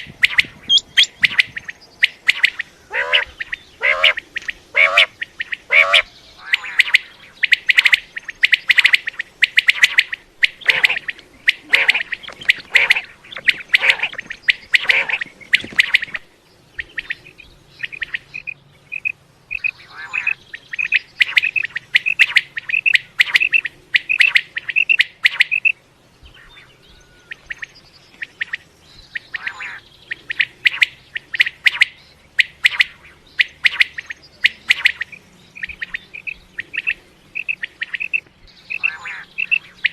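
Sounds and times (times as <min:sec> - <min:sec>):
quail calling: 0:00.0 - 0:25.8, 0:26.4 - 0:39.9.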